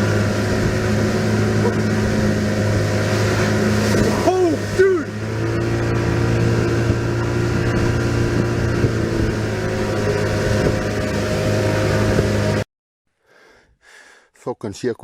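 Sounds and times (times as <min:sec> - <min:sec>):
motor humming steadily: 0:00.0 - 0:12.6.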